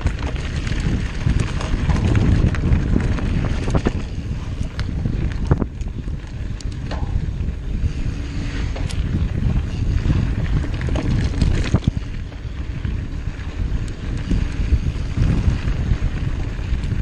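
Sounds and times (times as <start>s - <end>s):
tyre rumble: 0.0s - 17.0s
wind buffeting microphone: 0.0s - 17.0s.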